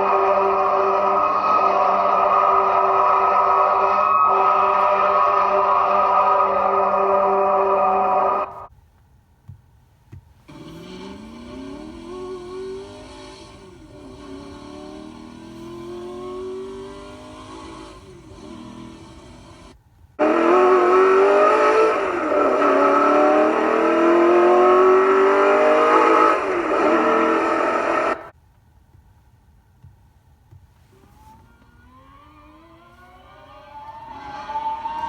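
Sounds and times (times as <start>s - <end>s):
recorded car engine revving: 0.0s - 8.7s, 10.4s - 28.4s, 30.8s - 35.0s.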